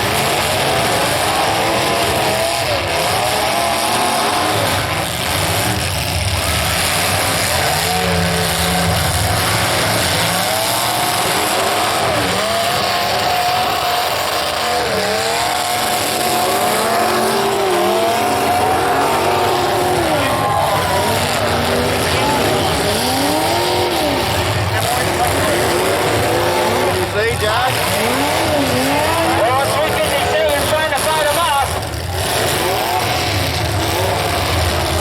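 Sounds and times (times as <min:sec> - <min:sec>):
car engines revving: 0:00.0 - 0:35.0
constant loud din: 0:00.0 - 0:35.0.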